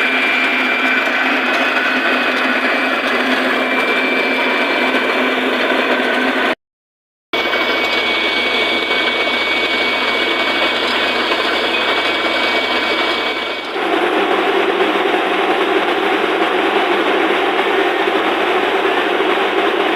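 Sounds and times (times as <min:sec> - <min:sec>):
drilling machinery running: 0:00.0 - 0:06.6, 0:07.4 - 0:19.9.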